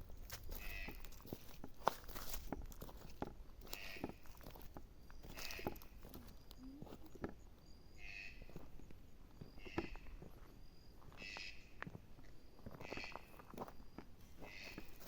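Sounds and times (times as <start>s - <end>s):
footsteps crunching on stony ground: 0.0s - 15.0s.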